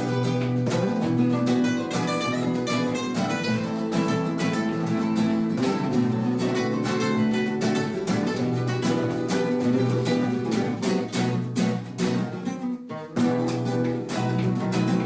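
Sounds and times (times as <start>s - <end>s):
flamenco acoustic guitar: 0.0s - 15.0s.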